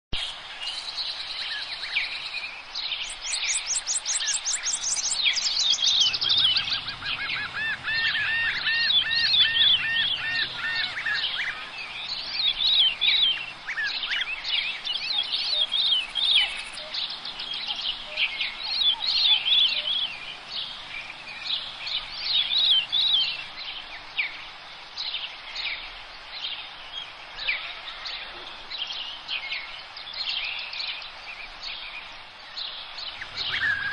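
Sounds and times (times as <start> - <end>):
songbirds chirping and trilling: 0.2 - 33.9.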